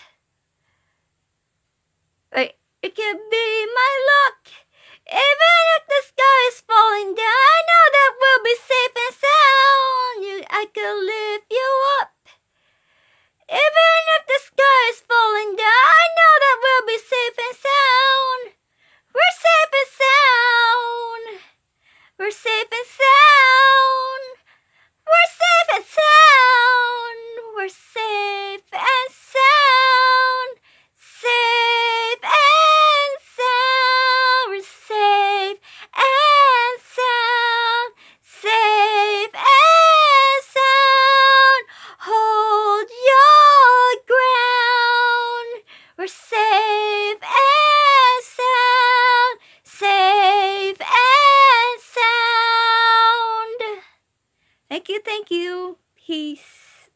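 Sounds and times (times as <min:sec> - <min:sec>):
girl singing unaccompanied: 0:02.3 - 0:12.4, 0:13.4 - 0:54.1, 0:54.7 - 0:56.9.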